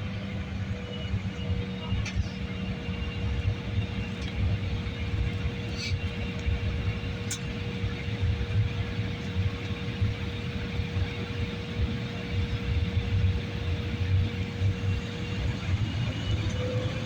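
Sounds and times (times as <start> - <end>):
constant hum: 0.0 - 17.0
jet engine rumble in cabin: 0.0 - 17.0.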